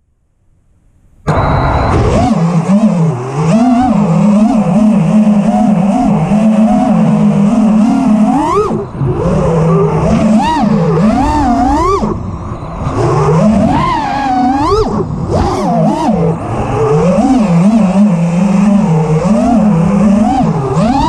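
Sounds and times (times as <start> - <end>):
drone motors whining: 1.3 - 21.0.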